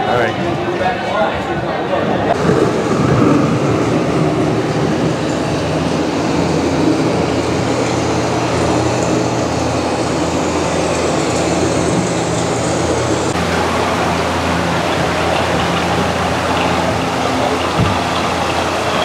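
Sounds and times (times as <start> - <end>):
boat low rumble with hiss: 2.1 - 19.0.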